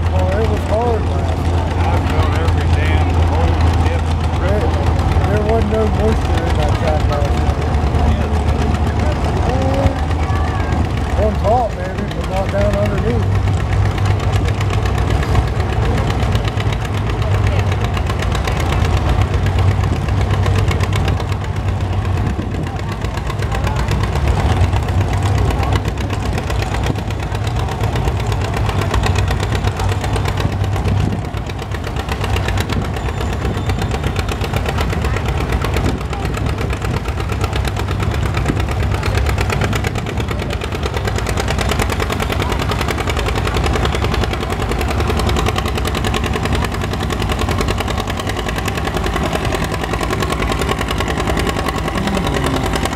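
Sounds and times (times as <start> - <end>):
tractor engine running under load: 0.0 - 52.9.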